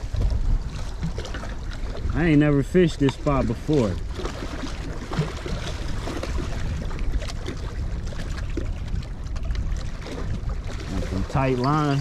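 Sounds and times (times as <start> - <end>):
lake water lapping: 0.0 - 12.0
wind buffeting microphone: 0.0 - 12.0.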